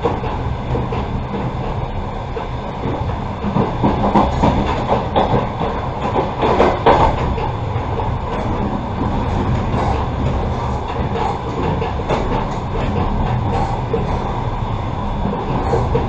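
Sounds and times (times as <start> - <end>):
train rumble inside carriage: 0.0 - 16.0
train wheels clacking: 0.0 - 16.0.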